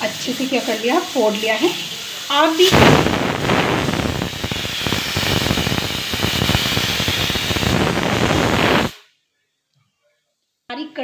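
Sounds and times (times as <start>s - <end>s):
pressure cooker whistle hissing: 0.0s - 9.0s.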